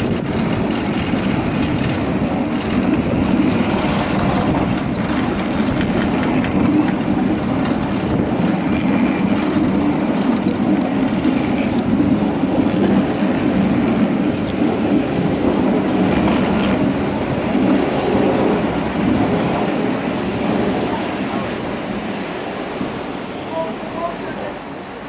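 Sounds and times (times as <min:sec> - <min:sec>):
wheels rumbling on rails: 0:00.0 - 0:25.0.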